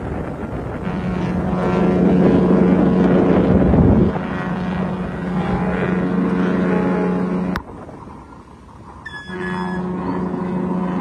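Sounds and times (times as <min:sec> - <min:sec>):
ship horn low blast: 0:00.0 - 0:07.7, 0:09.0 - 0:11.0.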